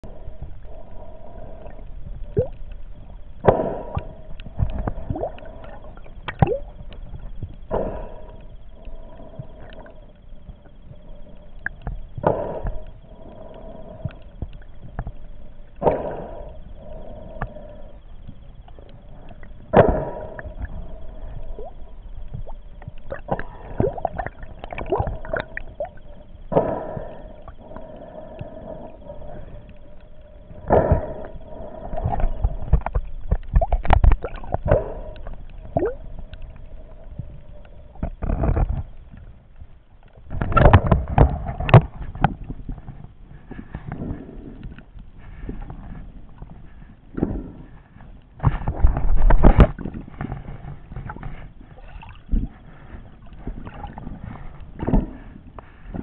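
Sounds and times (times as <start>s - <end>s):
steady hum: 0.0s - 56.0s
water sloshing and gurgling: 0.0s - 56.0s.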